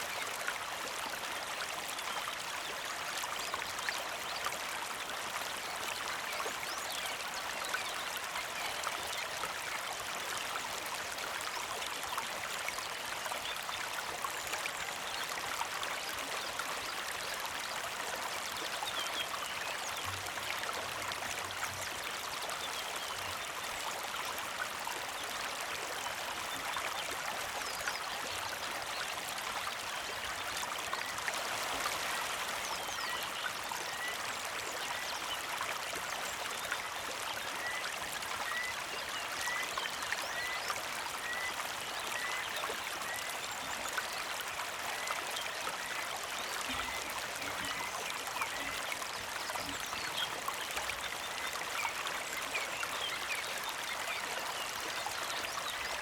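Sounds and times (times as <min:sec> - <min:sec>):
creek trickling over rocks: 0:00.0 - 0:56.0.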